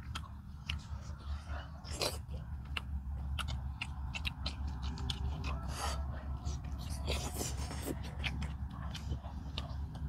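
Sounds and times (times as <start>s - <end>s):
steady low hum: 0.0s - 10.0s
wet chewing clicks and smacks: 0.0s - 10.0s.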